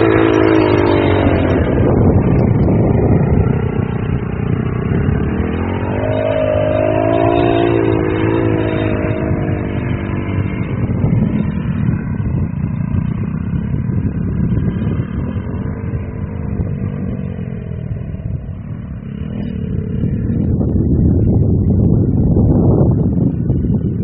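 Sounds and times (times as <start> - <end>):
off-road vehicle engine rumbling: 0.0 - 24.0.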